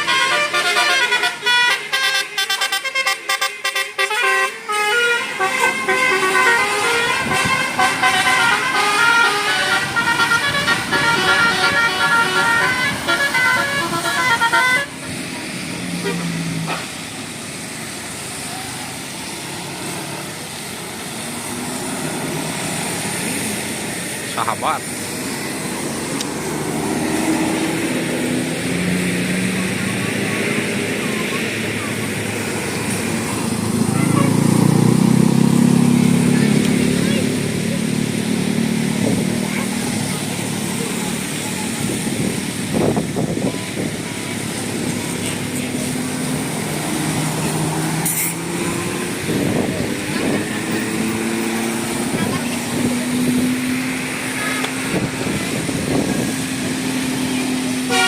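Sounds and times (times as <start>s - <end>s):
heavy vehicle engine: 0.0s - 58.0s
road noise: 0.0s - 58.0s.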